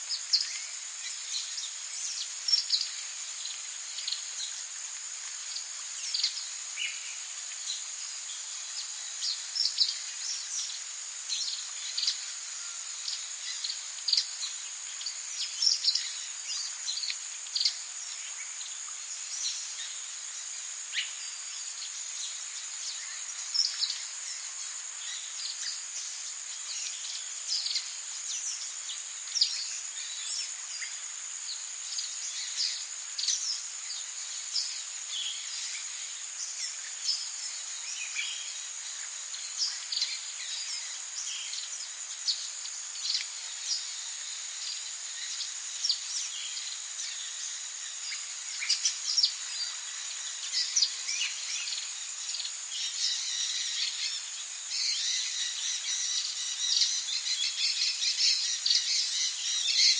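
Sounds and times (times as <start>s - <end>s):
even hiss: 0.0s - 59.9s
high-pitched insect drone: 0.1s - 59.9s.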